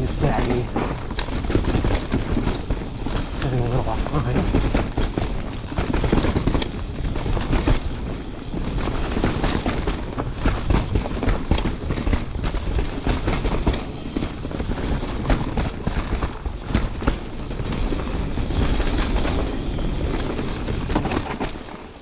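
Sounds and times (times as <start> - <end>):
bike chain and frame rattling: 0.0 - 22.0
tyres rolling over dirt: 0.0 - 22.0.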